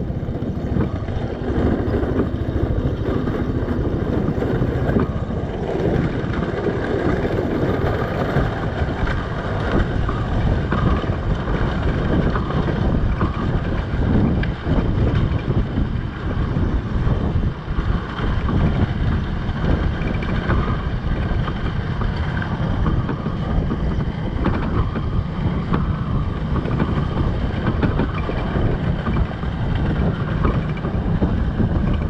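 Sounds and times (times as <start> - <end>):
dirt bike engine running: 0.0 - 32.0
wind buffeting microphone: 0.0 - 32.0.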